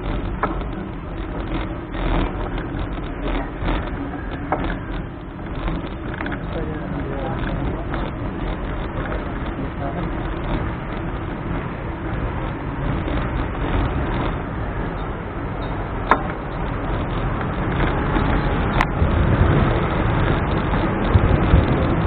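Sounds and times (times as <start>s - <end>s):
bicycle road and wind noise: 0.0s - 22.0s
street traffic rumble: 0.0s - 22.0s.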